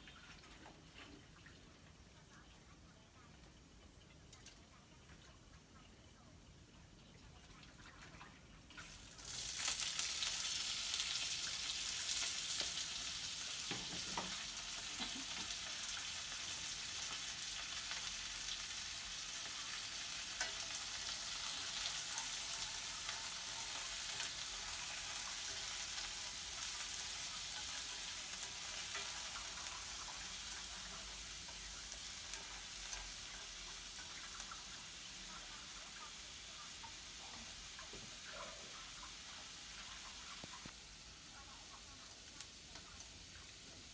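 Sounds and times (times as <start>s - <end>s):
shrimp sizzling in hot oil: 8.7s - 43.9s.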